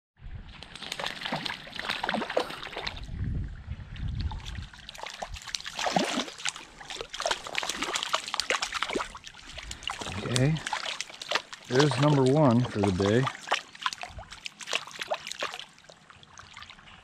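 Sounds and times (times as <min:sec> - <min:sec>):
rippling water: 0:00.2 - 0:17.0
fish splashing and thrashing: 0:00.4 - 0:03.2, 0:03.9 - 0:17.0.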